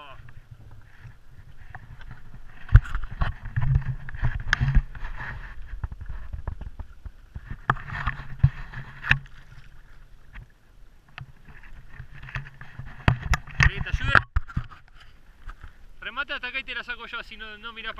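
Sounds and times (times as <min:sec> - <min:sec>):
water lapping against kayak: 0:00.0 - 0:16.2.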